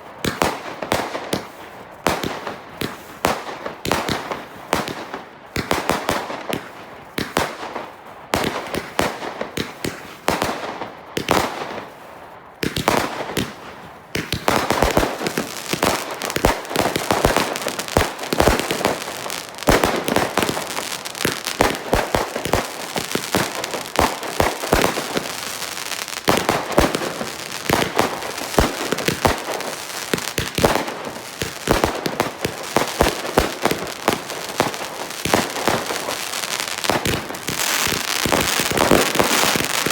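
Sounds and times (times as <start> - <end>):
fireworks banging and crackling: 0.1 - 39.9.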